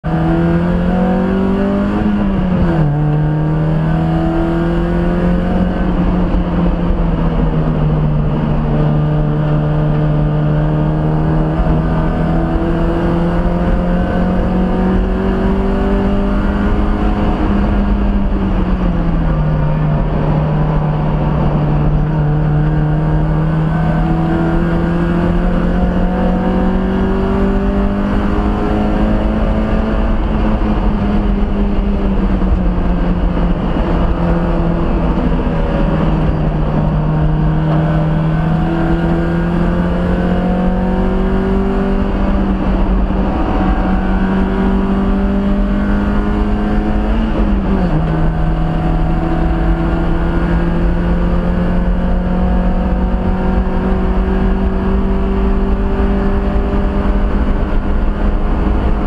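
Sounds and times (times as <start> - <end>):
race car engine under throttle: 0.0 - 59.0.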